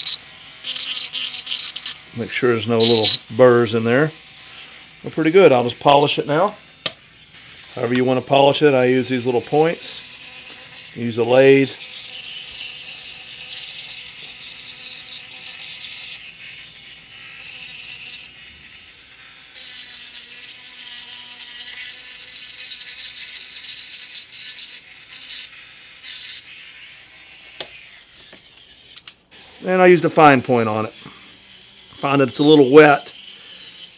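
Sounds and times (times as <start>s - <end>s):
dental handpiece grinding: 0.0s - 33.9s.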